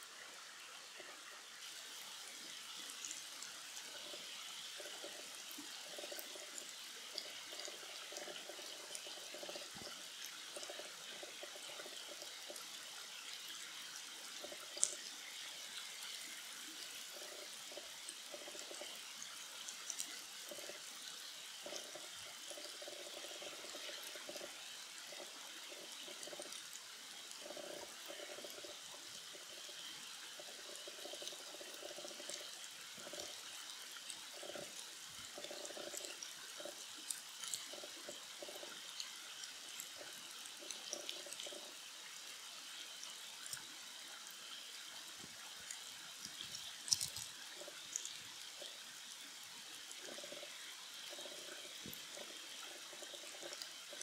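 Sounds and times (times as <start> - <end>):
stream burbling: 0.0 - 54.0
small ticks and clicks: 0.9 - 54.0.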